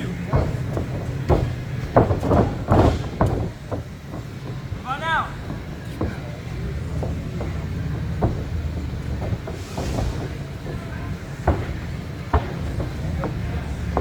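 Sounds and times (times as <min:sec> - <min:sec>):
bodies thudding on wrestling ring: 0:00.0 - 0:04.8, 0:05.4 - 0:14.0.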